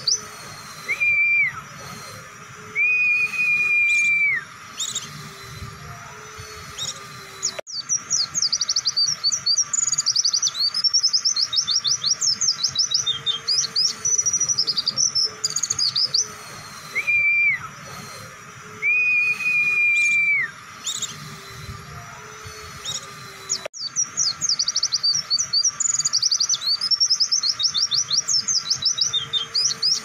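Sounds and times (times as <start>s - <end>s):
bird long level whistles: 0.0s - 30.0s.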